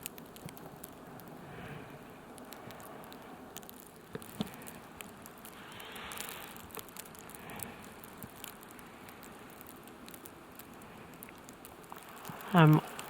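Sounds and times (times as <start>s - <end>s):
light ticks and crackles: 0.0s - 13.0s
soft hiss: 0.0s - 13.0s.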